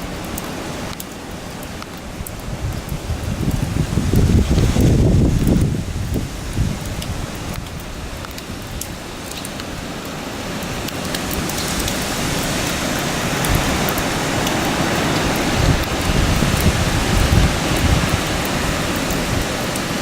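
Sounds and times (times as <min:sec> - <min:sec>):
rain: 0:00.0 - 0:20.0
wind: 0:00.0 - 0:20.0.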